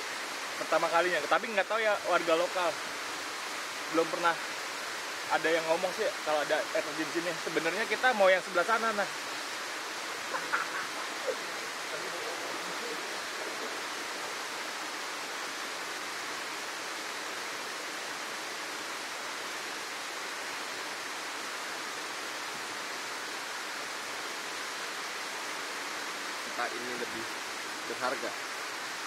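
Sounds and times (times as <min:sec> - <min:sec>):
waterfall pouring into pool: 0:00.0 - 0:29.0.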